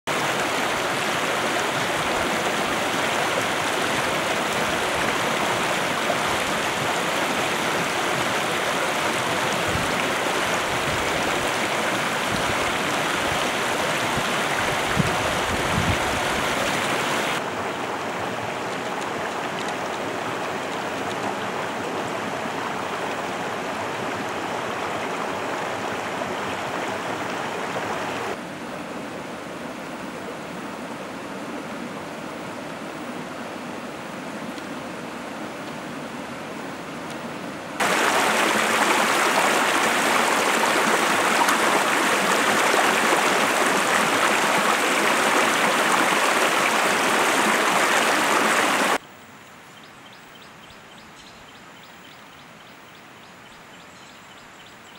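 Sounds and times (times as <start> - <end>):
stream flowing: 0.1 - 54.9.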